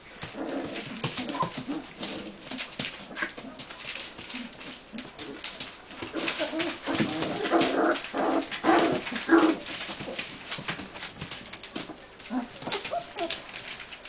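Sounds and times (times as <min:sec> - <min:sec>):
newspaper crackling: 0:00.0 - 0:14.0.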